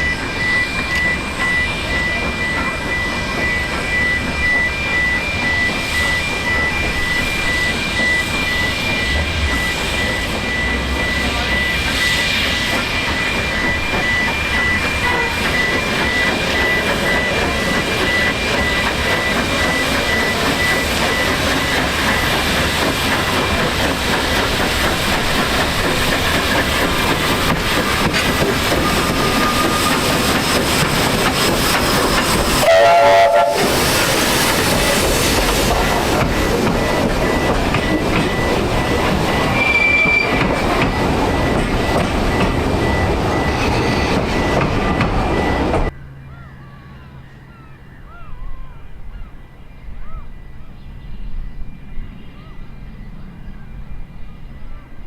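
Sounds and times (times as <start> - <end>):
train wheel clatter: 0.0 - 45.9
high squeal of wheels on rails: 0.0 - 55.0.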